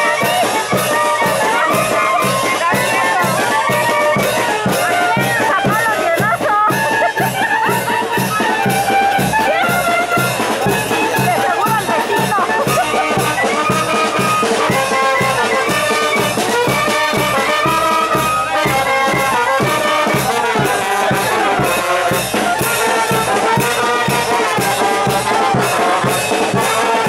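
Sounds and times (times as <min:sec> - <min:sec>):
brass band music: 0:00.0 - 0:27.0
steady drum beat: 0:00.0 - 0:27.0.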